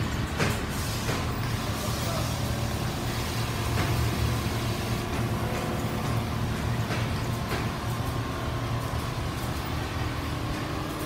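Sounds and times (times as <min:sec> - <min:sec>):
machine clatter: 0:00.0 - 0:11.0
low machine hum: 0:01.3 - 0:11.0.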